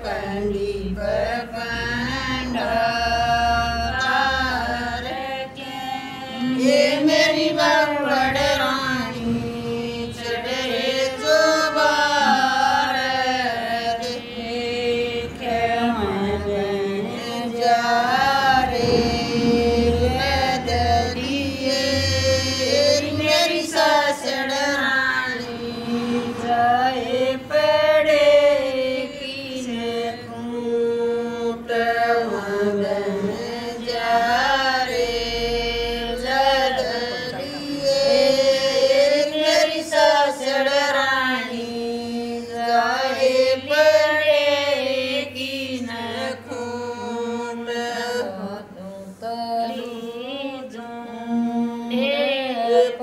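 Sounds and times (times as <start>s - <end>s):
women singing folk song: 0.0s - 53.0s.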